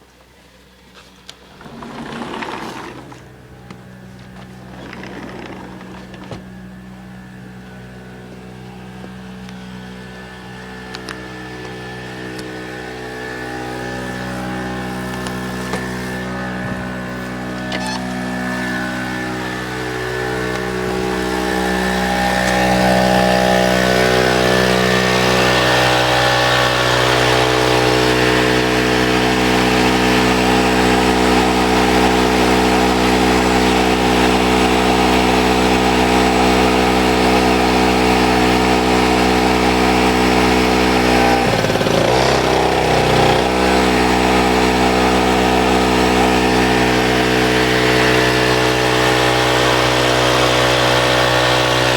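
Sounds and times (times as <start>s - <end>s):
portable generator engine running: 0.0s - 51.9s.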